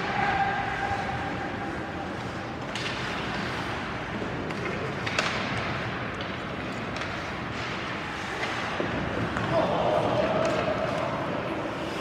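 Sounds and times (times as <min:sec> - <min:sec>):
arena noise: 0:00.0 - 0:12.0
hockey sticks and puck clacking: 0:00.0 - 0:12.0.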